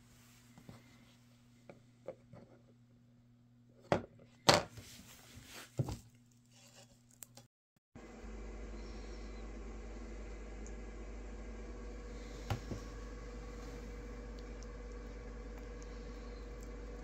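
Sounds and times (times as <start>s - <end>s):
low electrical hum: 0.0s - 7.4s, 8.0s - 17.0s.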